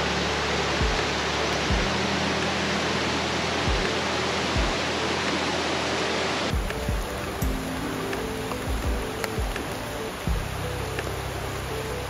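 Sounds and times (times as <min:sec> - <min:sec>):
soft background music: 0:00.0 - 0:12.0
stream rushing over rocks: 0:00.0 - 0:12.0.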